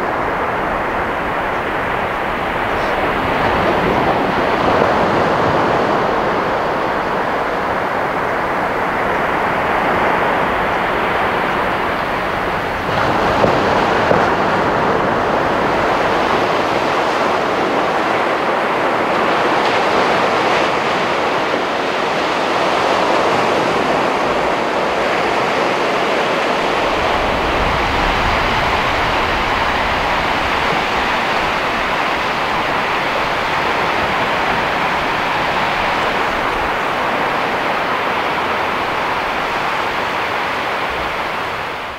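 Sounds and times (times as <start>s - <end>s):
ocean surf rushing: 0.0s - 41.9s
wind rumble on microphone: 0.0s - 41.9s.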